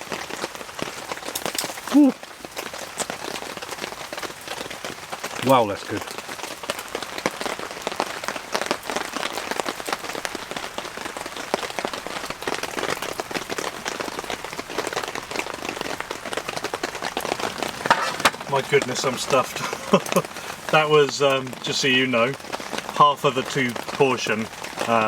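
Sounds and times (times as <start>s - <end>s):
heavy rain on a tent: 0.0s - 25.0s.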